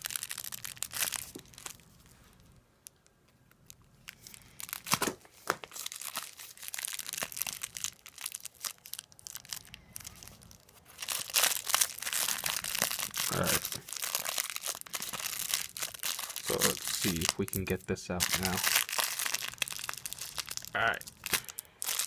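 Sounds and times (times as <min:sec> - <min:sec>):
packaging crinkling and tearing: 0:00.0 - 0:22.0.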